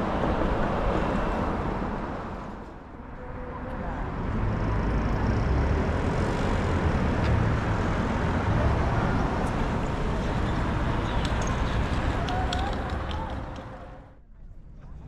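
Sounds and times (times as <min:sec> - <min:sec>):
road traffic rumble: 0:00.0 - 0:14.2.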